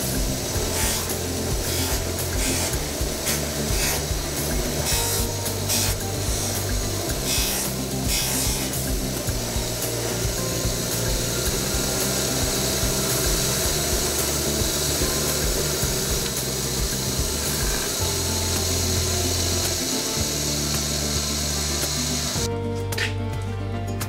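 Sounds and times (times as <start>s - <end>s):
bench grinder running: 0.0s - 22.5s.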